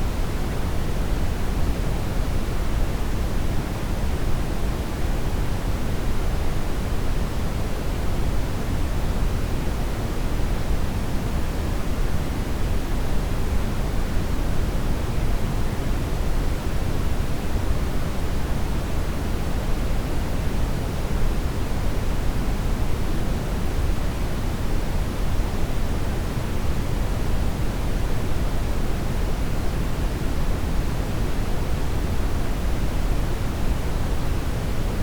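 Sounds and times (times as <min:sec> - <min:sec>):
brown noise hiss: 0:00.0 - 0:35.0.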